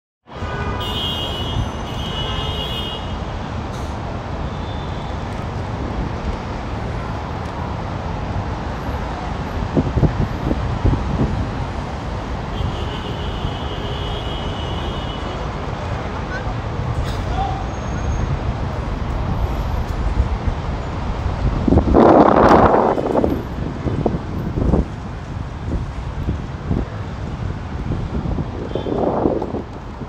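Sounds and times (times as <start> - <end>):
road traffic noise: 0.2 - 30.0.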